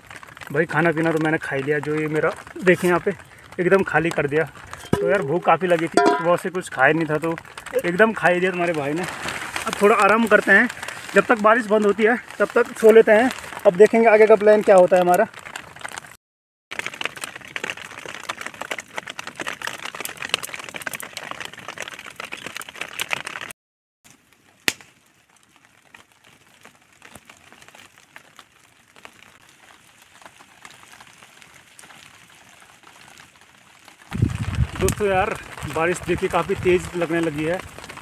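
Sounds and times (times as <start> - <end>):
rain pattering: 0.0 - 23.5, 24.1 - 38.0.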